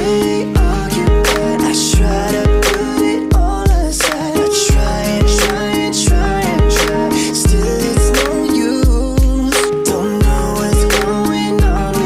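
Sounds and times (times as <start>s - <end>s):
deep kick drum: 0.0s - 4.1s, 4.7s - 9.6s, 10.2s - 12.0s.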